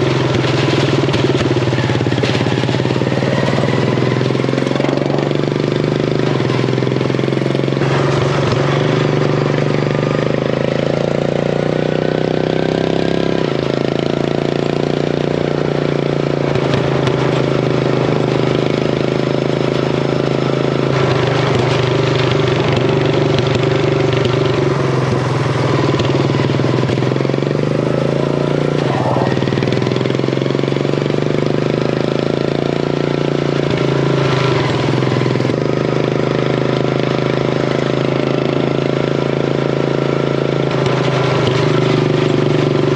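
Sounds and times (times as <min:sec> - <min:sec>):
mower engine running hard: 0:00.0 - 0:42.9.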